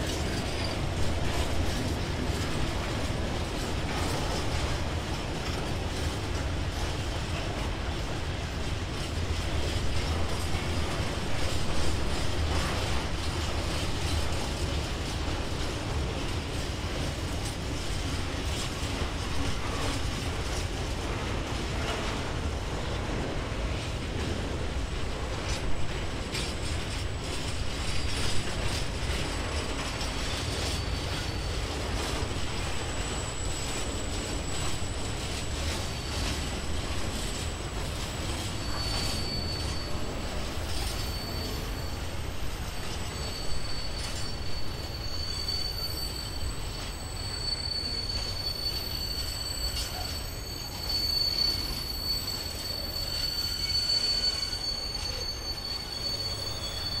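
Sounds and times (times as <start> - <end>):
low train rumble: 0.0 - 57.0
train wheels squealing: 0.0 - 57.0.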